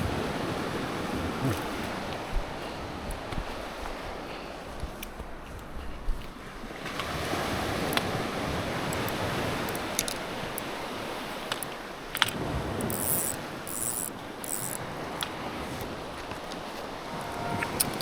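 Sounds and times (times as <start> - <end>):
sea waves washing: 0.0 - 4.8, 6.6 - 18.0.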